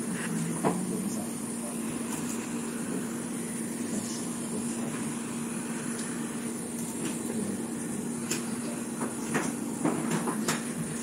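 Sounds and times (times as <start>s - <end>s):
hot-air gun fan blowing: 0.0s - 11.0s.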